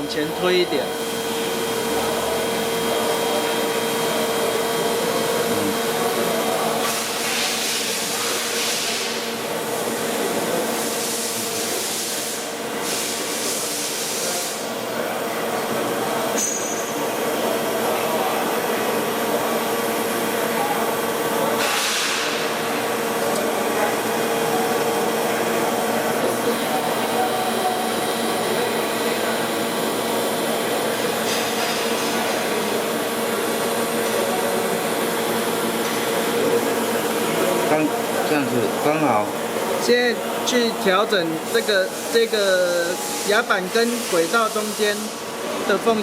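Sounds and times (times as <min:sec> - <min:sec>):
machinery hum: 0:00.0 - 0:16.3, 0:17.0 - 0:46.0.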